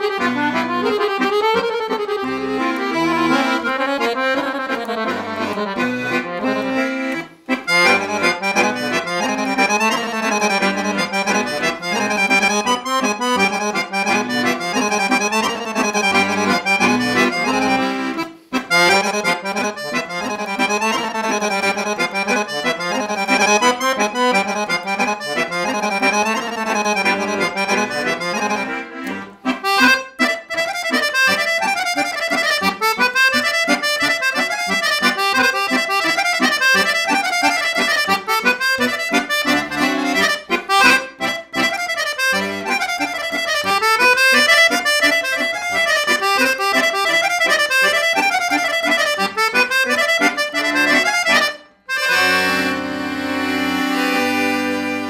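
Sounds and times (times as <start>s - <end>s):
accordion folk dance tune: 0.0s - 55.0s.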